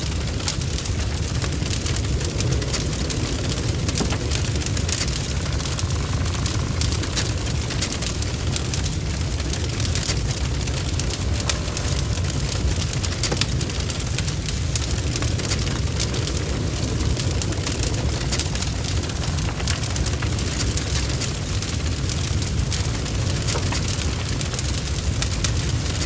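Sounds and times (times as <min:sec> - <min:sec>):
fire blazing with deep rumble: 0:00.0 - 0:26.0
fire crackling and spitting: 0:00.0 - 0:26.0.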